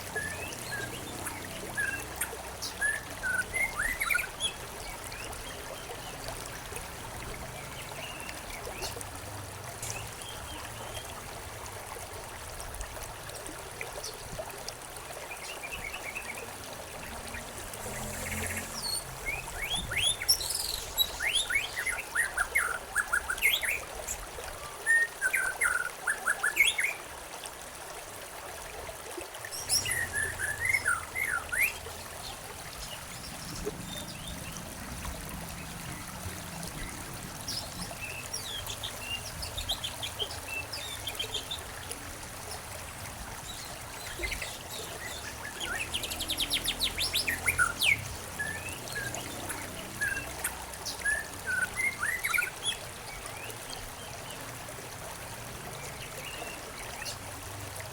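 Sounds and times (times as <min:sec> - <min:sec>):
flowing water rushing: 0:00.0 - 0:57.9.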